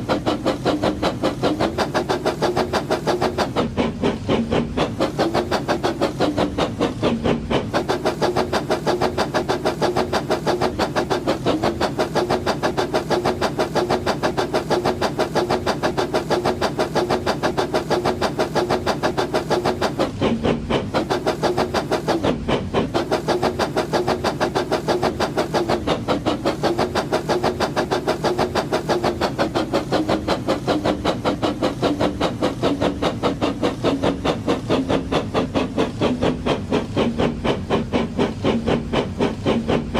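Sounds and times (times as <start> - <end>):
train chugging: 0.0 - 39.9.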